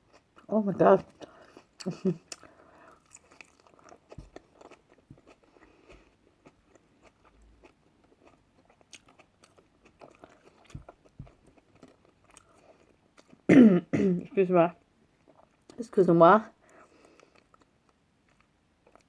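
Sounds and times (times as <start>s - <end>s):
chewing and crunching: 0.0s - 13.5s, 15.2s - 15.8s, 16.7s - 19.0s.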